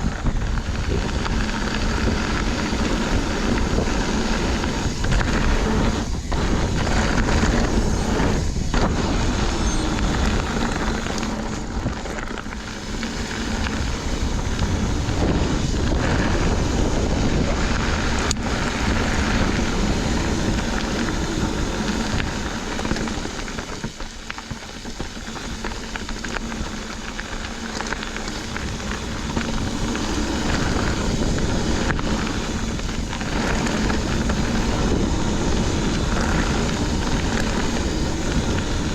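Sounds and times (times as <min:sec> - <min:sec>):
bike rattling: 0:00.0 - 0:38.9
tyres rolling on dirt: 0:00.0 - 0:38.9
wind noise on microphone: 0:00.0 - 0:38.9.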